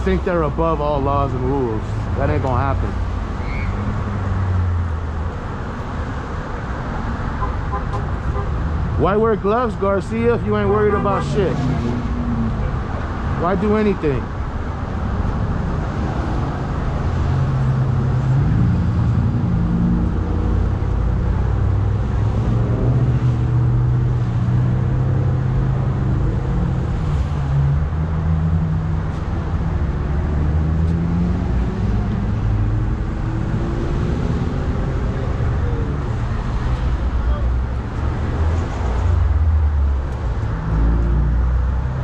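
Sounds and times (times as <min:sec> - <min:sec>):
street traffic: 0:00.0 - 0:42.0.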